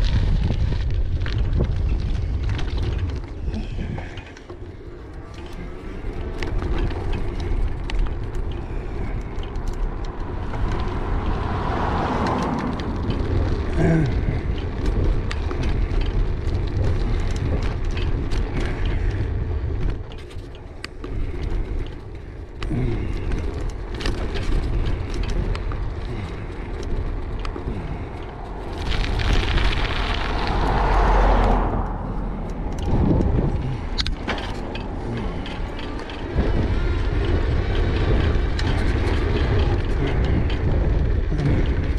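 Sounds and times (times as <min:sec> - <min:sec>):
low tyre rumble: 0:00.0 - 0:41.9
small rattles and clicks: 0:00.0 - 0:41.9
wind buffeting microphone: 0:00.0 - 0:41.9.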